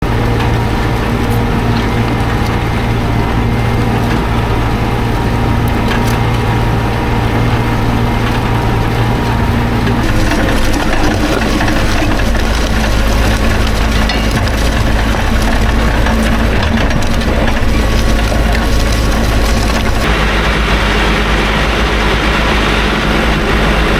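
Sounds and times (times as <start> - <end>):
rough grinding noise: 0.0 - 23.9
tractor engine running: 0.0 - 23.9.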